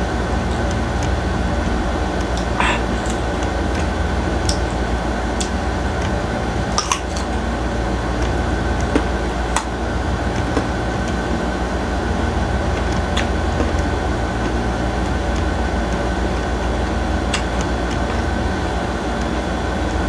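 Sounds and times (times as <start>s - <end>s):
low machine hum: 0.0s - 20.0s
biting and chewing: 0.4s - 18.7s.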